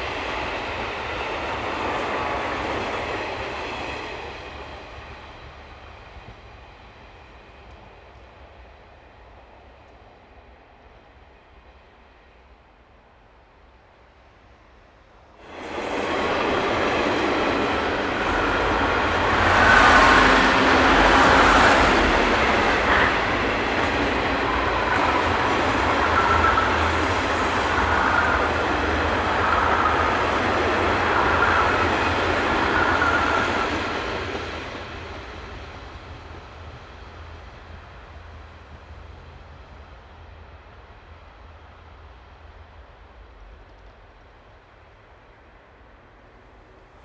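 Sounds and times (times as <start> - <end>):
train wheels rumbling and clattering: 0.0 - 12.6, 15.4 - 47.0.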